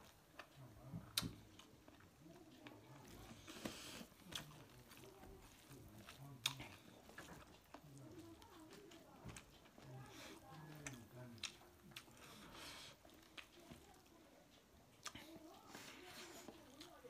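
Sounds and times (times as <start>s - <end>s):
faint chewing with clicks: 0.0s - 17.0s.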